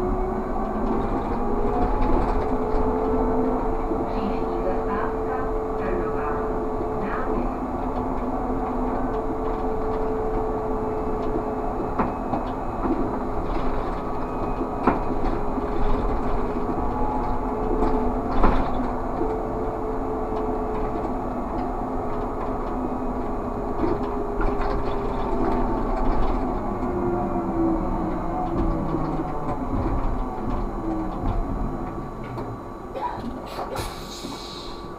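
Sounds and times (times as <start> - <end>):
knocks and rattles from bus body: 0.0 - 5.1, 6.8 - 34.6
road rumble: 0.0 - 34.9.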